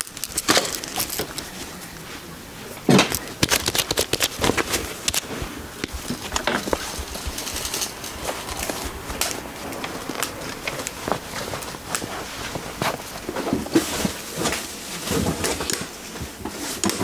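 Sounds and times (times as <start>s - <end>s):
cloth rustling: 0.0s - 16.8s.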